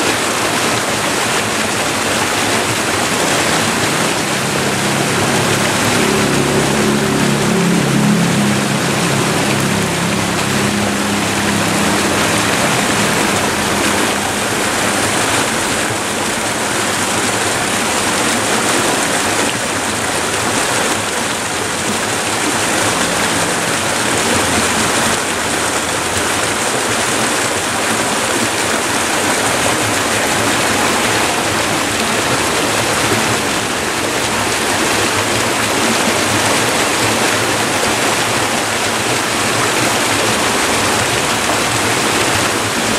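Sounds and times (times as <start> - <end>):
river rushing over rocks: 0.0 - 42.9.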